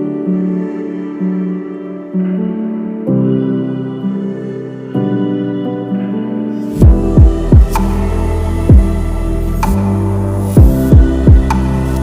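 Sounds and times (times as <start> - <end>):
slow soft instrumental music: 0.0 - 12.0.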